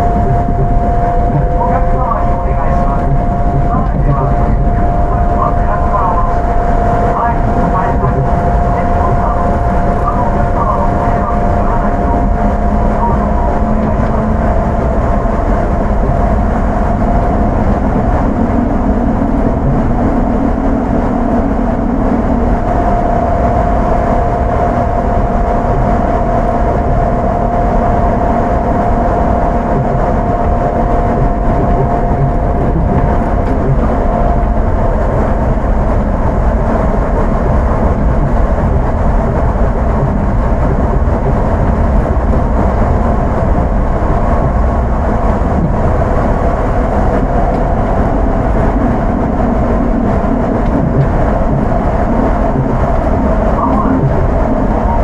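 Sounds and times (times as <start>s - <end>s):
electric controller whine: 0.0s - 55.0s
tyres rumbling on guideway: 0.0s - 55.0s.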